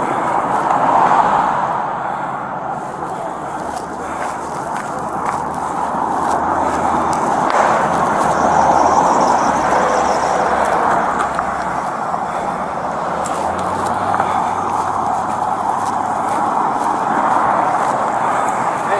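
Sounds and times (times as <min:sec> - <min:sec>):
highway traffic rushing past: 0:00.0 - 0:18.9
truck passing: 0:00.0 - 0:18.9.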